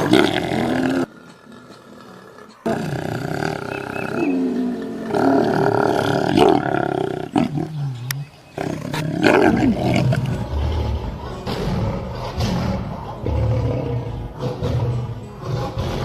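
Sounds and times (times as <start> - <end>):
lion roaring: 0.0 - 16.0.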